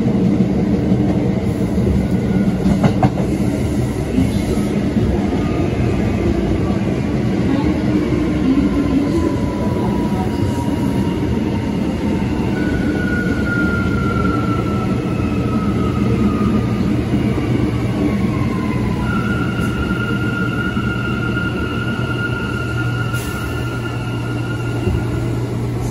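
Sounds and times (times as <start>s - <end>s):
wheels rumbling on rail: 0.0s - 25.9s.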